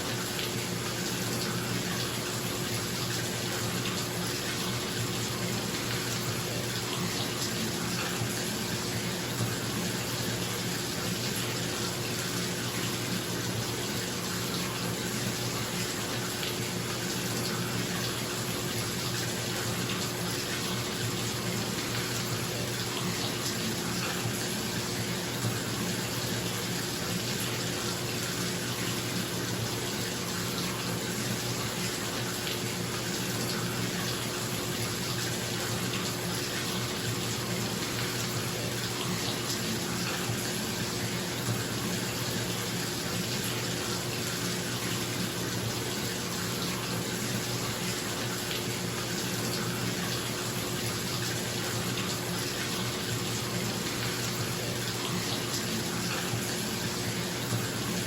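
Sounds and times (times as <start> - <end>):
bathtub tap running: 0.0 - 58.0.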